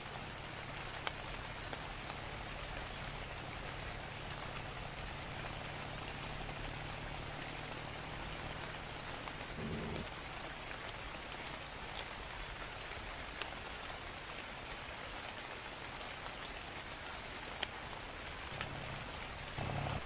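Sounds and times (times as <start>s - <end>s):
rain drop clicks: 0.0s - 20.0s
steady rain hiss: 0.0s - 20.0s.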